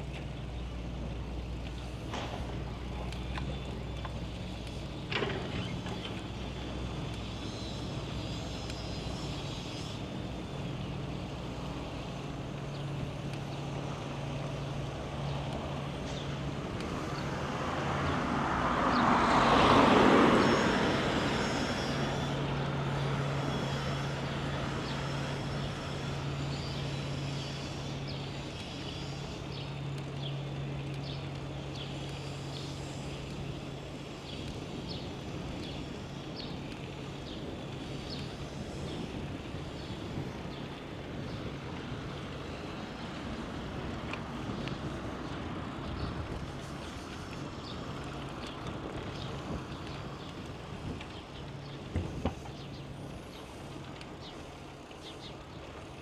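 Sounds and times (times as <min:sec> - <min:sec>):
bicycle rolling noise: 0:00.0 - 0:56.0.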